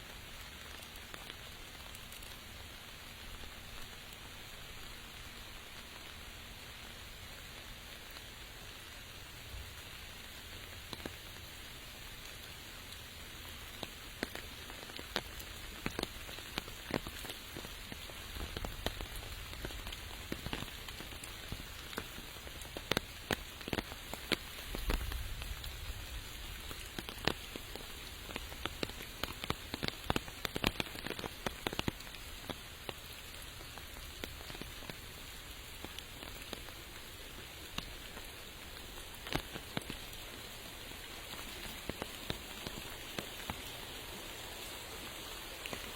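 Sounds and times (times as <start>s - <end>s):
raindrops ticking close by: 0.0s - 45.9s
steady rain hiss: 0.0s - 45.9s.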